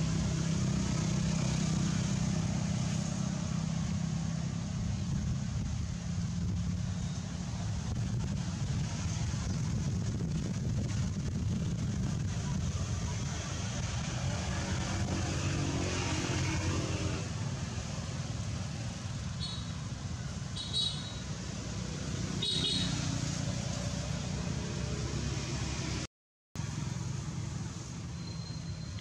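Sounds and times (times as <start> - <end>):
low rumble of motor traffic: 0.0 - 29.0.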